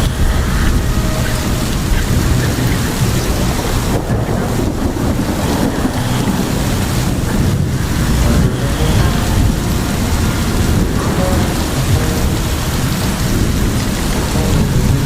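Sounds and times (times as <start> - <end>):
constant low rumble: 0.0 - 15.0
heavy rain: 0.0 - 15.0
wind buffeting microphone: 0.0 - 15.0.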